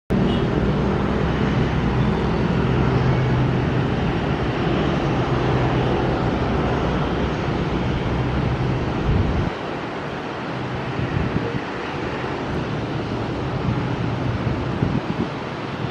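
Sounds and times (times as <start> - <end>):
jet engines rushing: 0.1 - 15.9.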